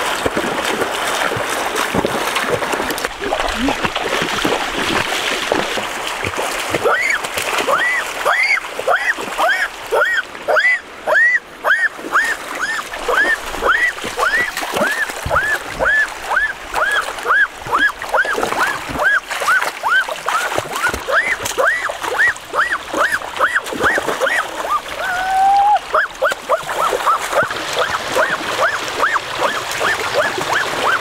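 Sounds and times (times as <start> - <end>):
splashing in shallow water: 0.0 - 31.0.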